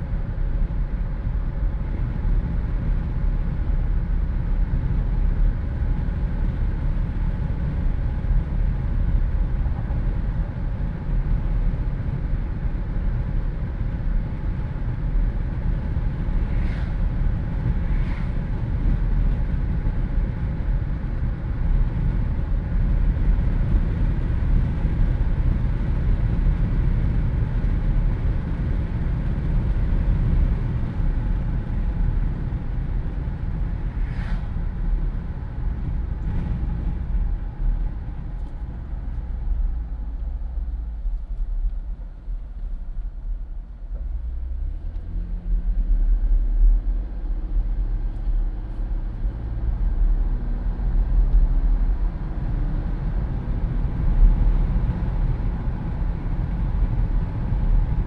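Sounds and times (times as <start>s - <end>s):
road and engine rumble: 0.0s - 58.0s
wind rushing through car cabin: 0.0s - 58.0s.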